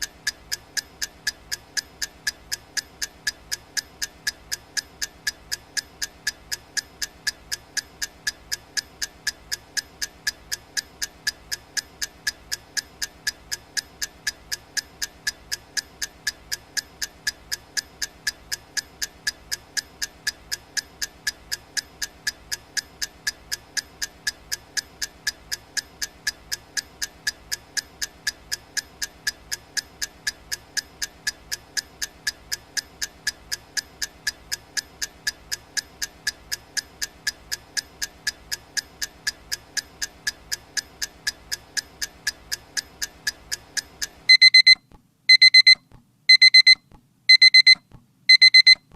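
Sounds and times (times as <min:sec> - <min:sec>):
timer ticking: 0:00.0 - 0:48.9.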